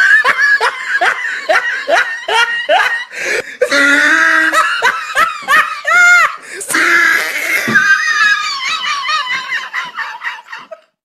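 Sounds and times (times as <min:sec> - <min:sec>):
person laughing hard: 0:00.0 - 0:11.0.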